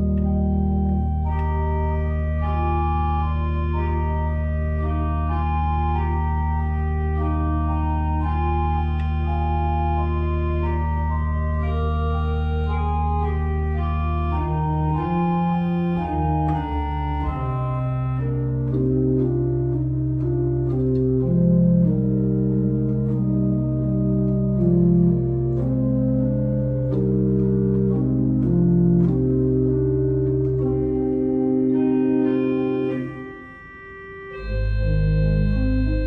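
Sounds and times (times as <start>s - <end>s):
organ playing: 0.0s - 36.0s.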